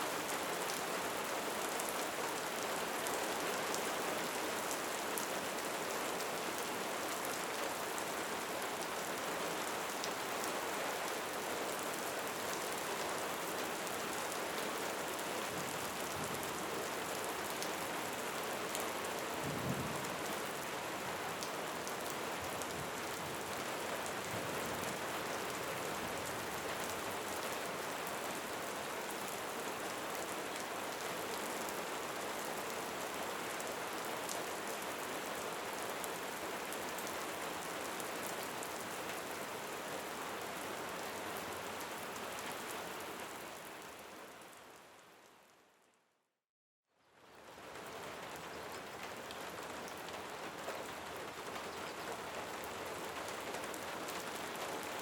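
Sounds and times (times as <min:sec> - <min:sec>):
rain pattering: 0:00.1 - 0:44.8, 0:47.2 - 0:55.0.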